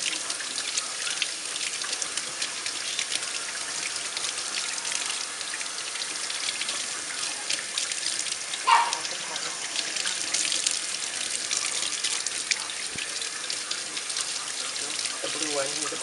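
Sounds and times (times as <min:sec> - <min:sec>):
tap water splashing into sink: 0:00.0 - 0:16.0.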